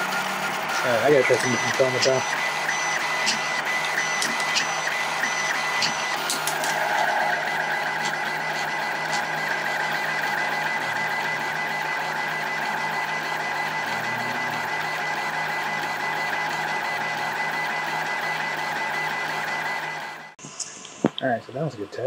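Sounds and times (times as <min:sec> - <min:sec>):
three d printer motors whining: 0:00.0 - 0:20.4.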